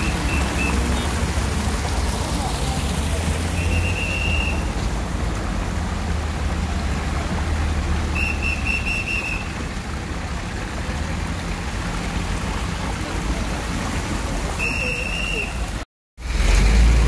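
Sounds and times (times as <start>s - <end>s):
cars driving through water: 0.0s - 17.0s
low engine hum: 0.0s - 17.0s.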